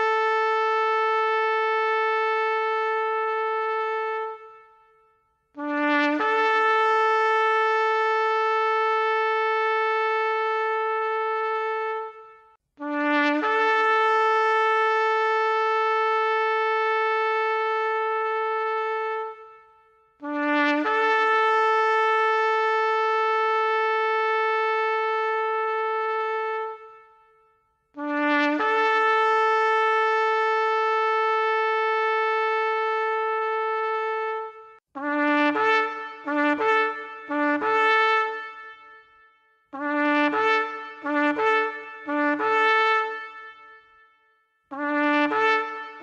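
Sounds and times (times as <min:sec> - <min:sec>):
shofar blasts: 0:05.6 - 0:27.4, 0:28.0 - 0:46.0.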